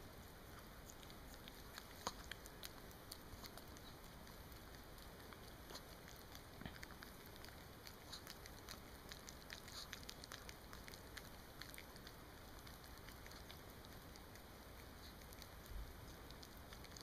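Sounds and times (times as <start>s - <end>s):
dog licking and smacking lips: 0.1s - 17.0s.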